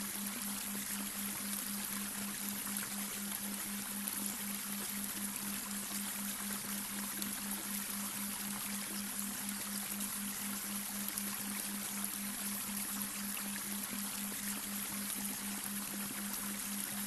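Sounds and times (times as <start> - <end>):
brook water flowing: 0.0 - 17.0
low pulsing hum tone: 0.0 - 17.0.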